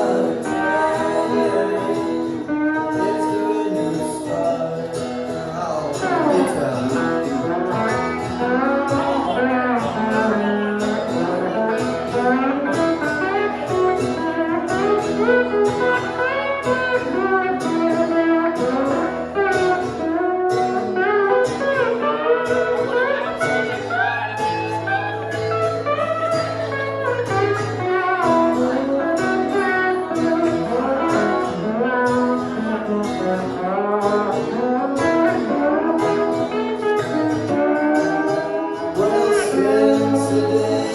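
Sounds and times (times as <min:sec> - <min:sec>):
country guitar duo playing: 0:00.0 - 0:40.9.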